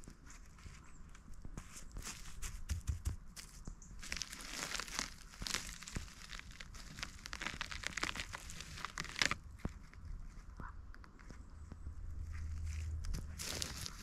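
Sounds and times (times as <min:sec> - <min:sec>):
footsteps through dry leaves and twigs: 0:00.0 - 0:10.6, 0:11.2 - 0:14.0.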